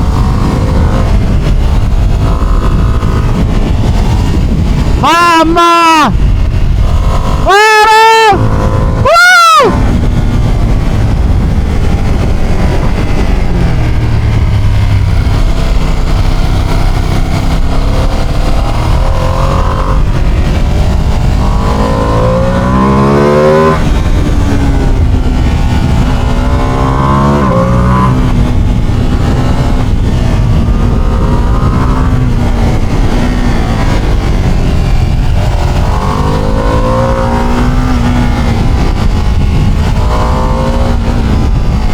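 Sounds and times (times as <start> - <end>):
motorcycle exhaust accelerating: 0.0 - 41.9
wind rushing: 0.0 - 41.9.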